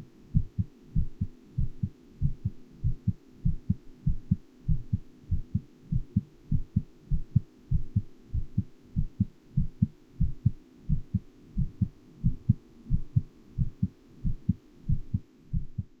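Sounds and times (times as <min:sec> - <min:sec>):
faint low hum: 0:00.0 - 0:16.0
heartbeat: 0:00.3 - 0:16.0.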